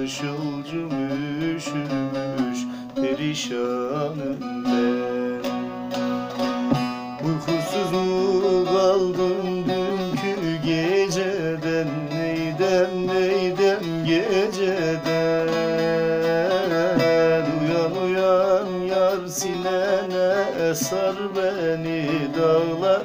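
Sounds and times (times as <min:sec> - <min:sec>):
long-necked lute folk melody: 0:00.0 - 0:23.0
man singing wordlessly: 0:00.0 - 0:23.0.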